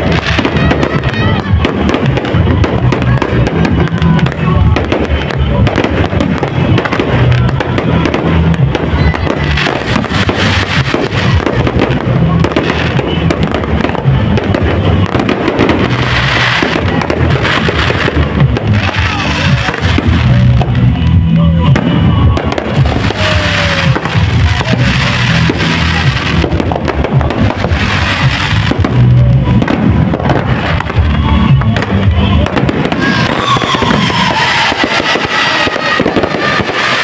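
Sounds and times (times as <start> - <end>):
fireworks bangs and crackles: 0.0 - 37.0
loud music: 0.0 - 37.0.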